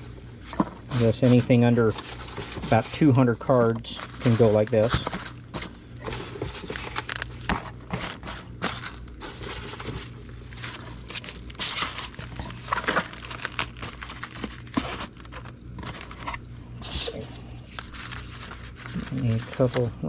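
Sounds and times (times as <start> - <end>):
packing peanuts rustling and squeaking: 0.0 - 20.0.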